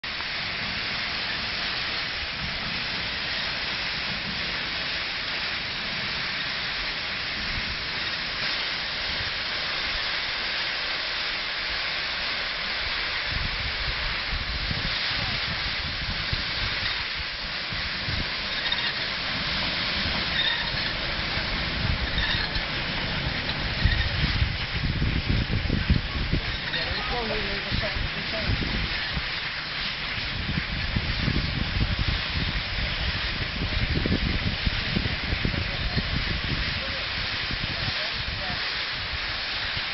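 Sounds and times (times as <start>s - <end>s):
steam hissing from locomotive: 0.0s - 39.9s.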